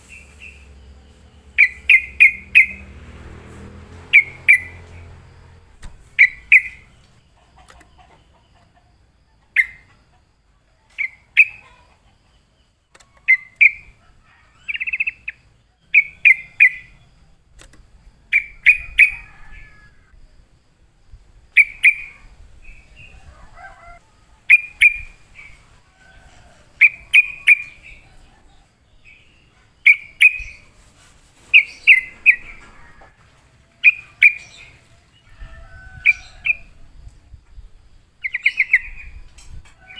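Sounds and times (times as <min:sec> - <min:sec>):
bulbul chirping song: 0:00.0 - 0:25.8, 0:26.7 - 0:30.8, 0:31.4 - 0:32.7, 0:33.8 - 0:35.2, 0:35.9 - 0:39.9.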